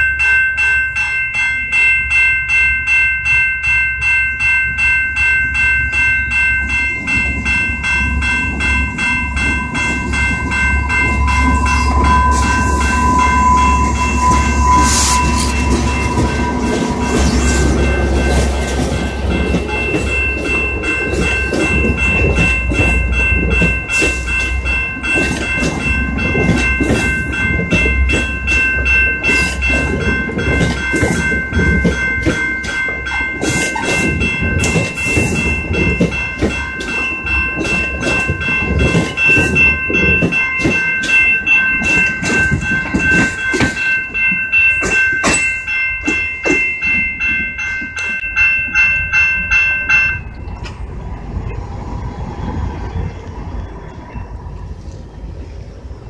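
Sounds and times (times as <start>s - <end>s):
level crossing bell dinging: 0.0s - 50.6s
train rumble: 0.0s - 56.0s
wheels clattering over rails: 6.7s - 55.6s.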